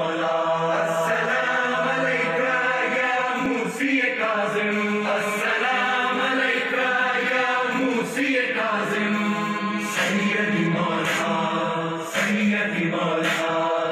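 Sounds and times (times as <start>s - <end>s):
person chanting: 0.0s - 13.9s.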